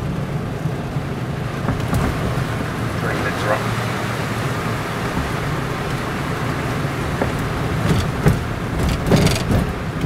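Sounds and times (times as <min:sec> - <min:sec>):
car engine and tyre noise: 0:00.0 - 0:10.0
water swishes under tyres: 0:00.0 - 0:10.0.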